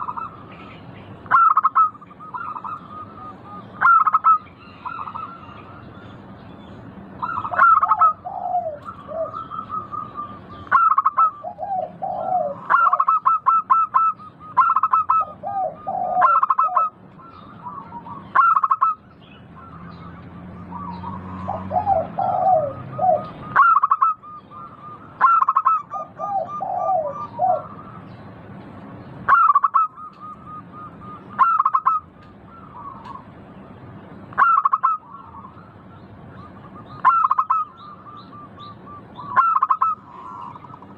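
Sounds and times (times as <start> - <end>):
dove cooing: 1.3 - 5.5, 7.2 - 19.0, 19.6 - 28.1, 29.3 - 33.3, 34.4 - 40.9.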